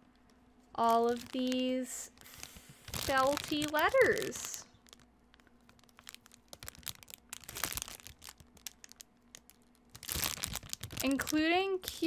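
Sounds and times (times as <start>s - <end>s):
packaging rustling and crinkling: 0.8s - 12.0s.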